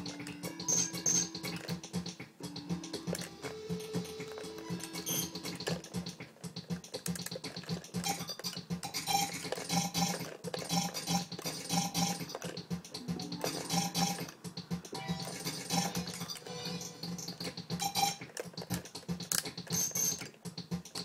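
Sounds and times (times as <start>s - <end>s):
repeated chopped tone: 0.0s - 18.3s.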